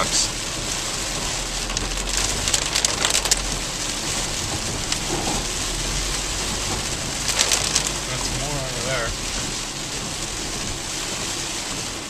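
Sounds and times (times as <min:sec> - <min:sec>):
heavy rain hitting a car: 0:00.0 - 0:12.0
low hum of a car: 0:00.0 - 0:12.0.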